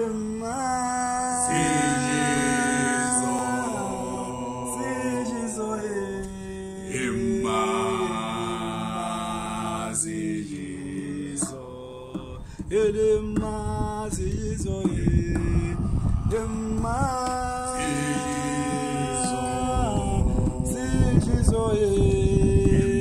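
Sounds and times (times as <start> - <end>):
voices singing a cappella harmony: 0.0 - 23.0.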